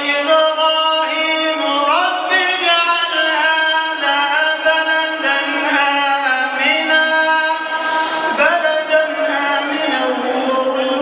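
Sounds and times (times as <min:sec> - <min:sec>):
man chanting recitation: 0:00.0 - 0:11.0.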